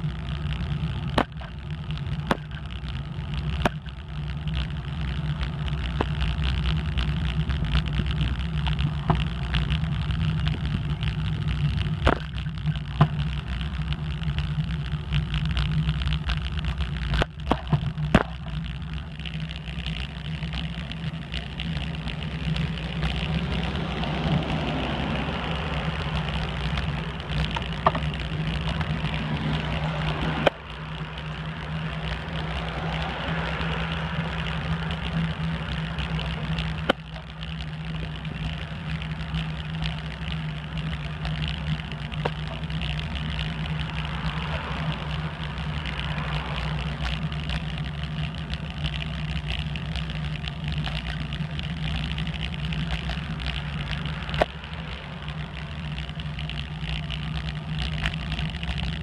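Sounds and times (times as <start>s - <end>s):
bicycle rolling on pavement: 0.0s - 59.0s
sharp rattles: 0.0s - 59.0s.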